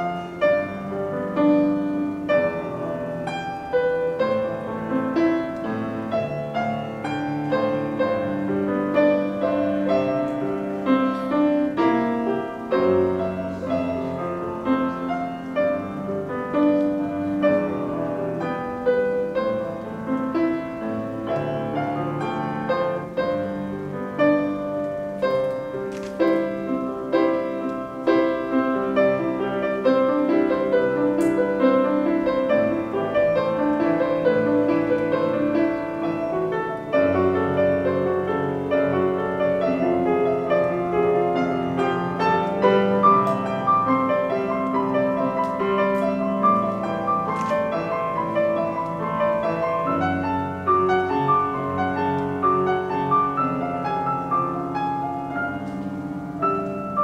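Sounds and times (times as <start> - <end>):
solo piano ballad: 0.0 - 57.0.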